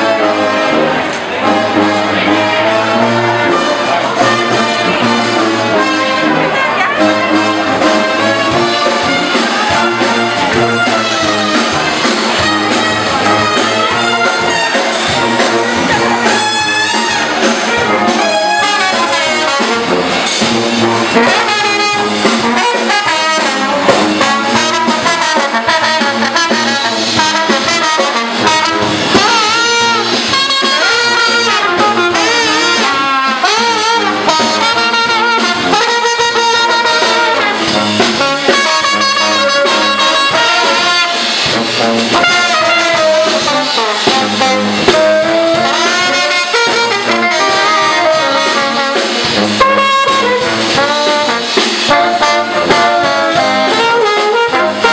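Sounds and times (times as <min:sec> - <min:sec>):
brass band playing jazz: 0:00.0 - 0:54.9
drums keeping time: 0:00.0 - 0:54.9.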